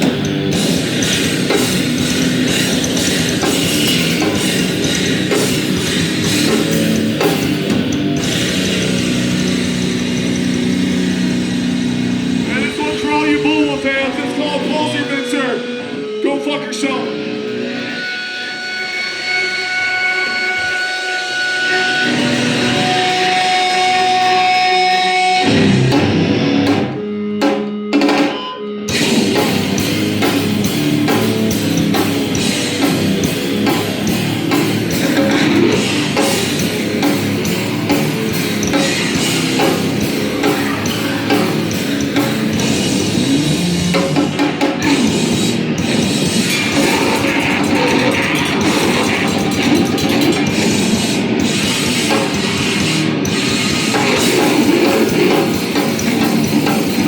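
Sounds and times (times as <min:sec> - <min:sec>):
driving drumming: 0:00.0 - 0:57.0
heavy rock band playing: 0:00.0 - 0:57.0
held electric guitar notes: 0:00.0 - 0:57.0.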